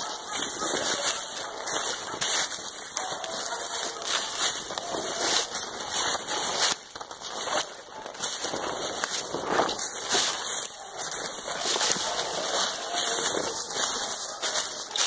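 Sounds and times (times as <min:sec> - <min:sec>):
footsteps crunching dry leaves: 0:00.0 - 0:15.0
twigs snapping against clothing: 0:00.8 - 0:15.0.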